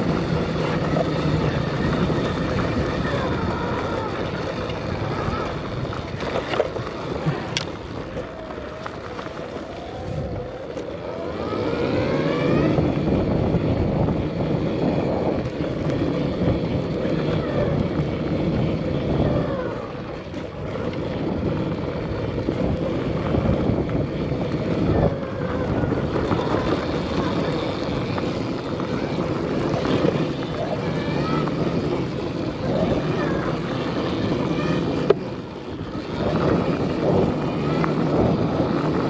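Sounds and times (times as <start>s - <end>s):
electric motor whine: 0.0s - 39.0s
riding noise rumble: 0.0s - 39.0s.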